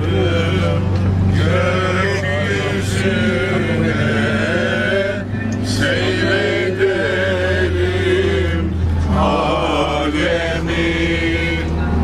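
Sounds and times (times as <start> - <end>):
bus engine drone: 0.0 - 12.0
people singing together: 0.0 - 12.0.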